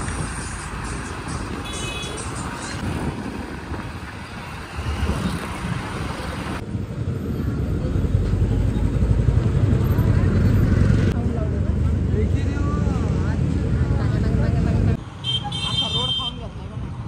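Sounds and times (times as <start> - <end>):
vehicles running: 0.0 - 17.0.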